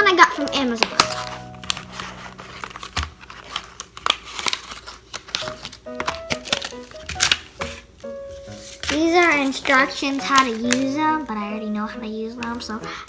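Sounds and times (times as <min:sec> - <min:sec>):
light background music: 0:00.0 - 0:13.0
plastic packaging crinkling: 0:00.0 - 0:13.0.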